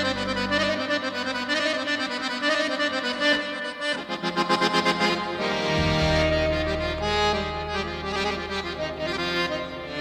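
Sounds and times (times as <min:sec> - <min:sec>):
sustained instrumental chords: 0:00.0 - 0:10.0.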